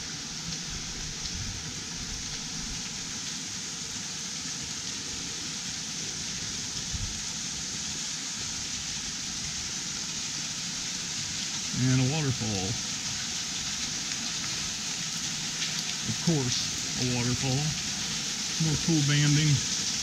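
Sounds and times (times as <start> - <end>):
waterfall splashing: 0.0 - 20.0.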